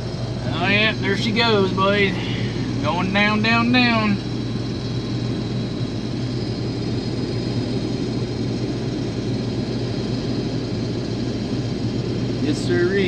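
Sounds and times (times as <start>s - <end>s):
combine harvester hum and rumble: 0.0s - 13.0s.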